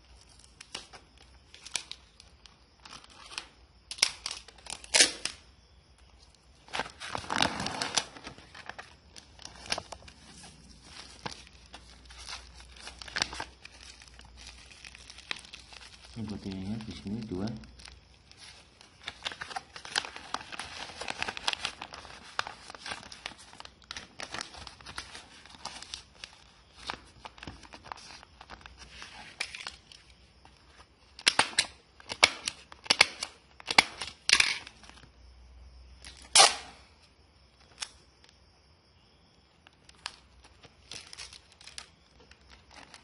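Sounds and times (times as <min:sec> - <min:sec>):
packaging crinkling: 0:00.0 - 0:05.4, 0:06.0 - 0:35.1, 0:37.6 - 0:38.0, 0:39.6 - 0:43.0
packaging tearing: 0:00.4 - 0:05.4, 0:06.6 - 0:30.1, 0:31.1 - 0:35.0, 0:36.0 - 0:36.8, 0:39.8 - 0:43.0.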